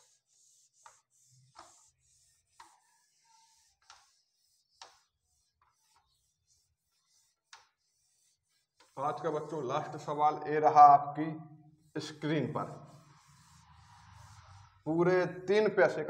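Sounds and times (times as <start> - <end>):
duster brushing whiteboard: 0.0 - 10.4, 11.1 - 15.2.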